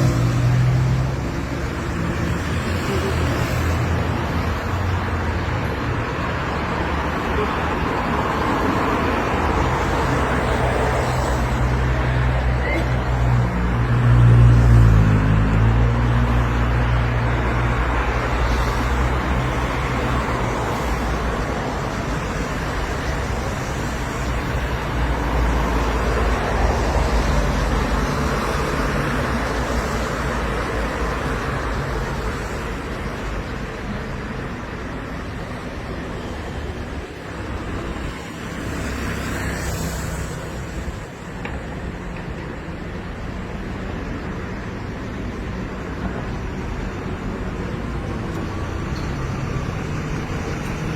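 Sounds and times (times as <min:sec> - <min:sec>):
traffic rumble: 0:00.0 - 0:50.9.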